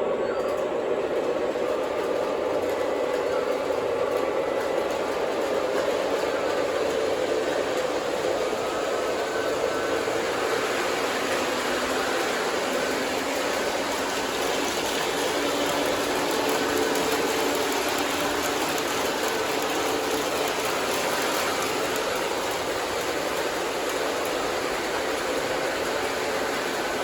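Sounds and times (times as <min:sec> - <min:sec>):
model train motor hum: 0:00.0 - 0:27.0
wheels on rails: 0:00.0 - 0:27.0.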